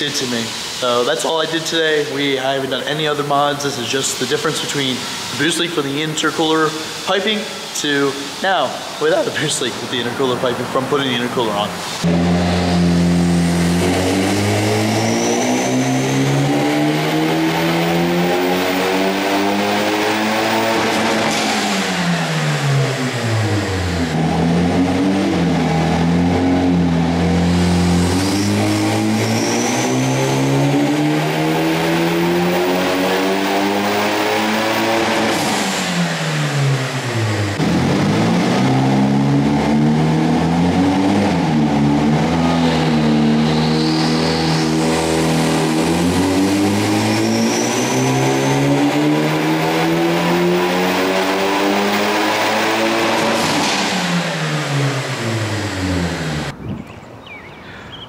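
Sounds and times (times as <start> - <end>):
car engine revving on dyno: 0.0 - 56.6.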